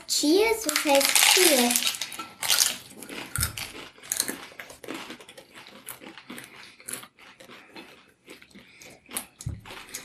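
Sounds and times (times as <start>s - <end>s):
crunching taco shells: 0.6s - 10.0s.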